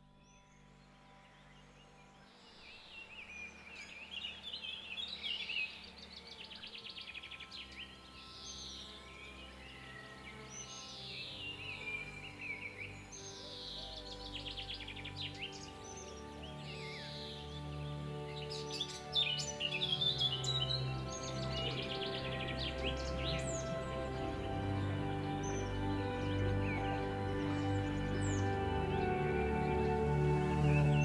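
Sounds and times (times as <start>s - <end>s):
ambient music of low chords: 0.0s - 31.0s
bird trill: 2.2s - 31.0s
birds warbling: 2.4s - 31.0s.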